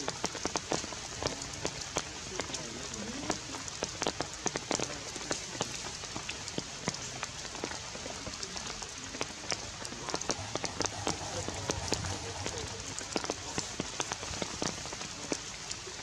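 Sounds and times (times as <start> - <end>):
light clicks and pattering: 0.0 - 16.0
steady forest hiss: 0.0 - 16.0.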